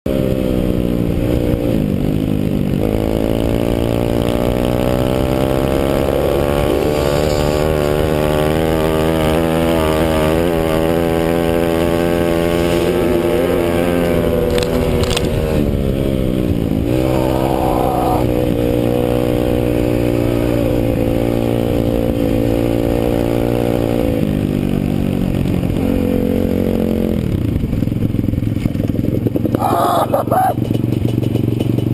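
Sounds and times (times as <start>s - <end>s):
motorbike engine revving: 0.1s - 31.9s.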